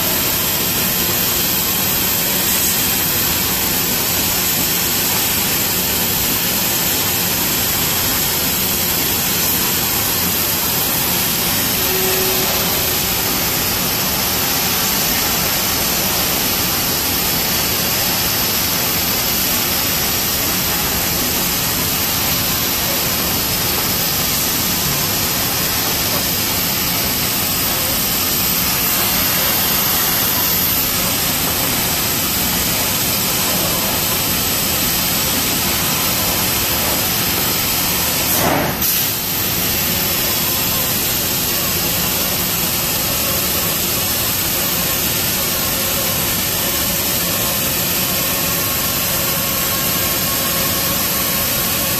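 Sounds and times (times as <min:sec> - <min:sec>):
loud hiss of gas from laser cutter: 0:00.0 - 0:51.9.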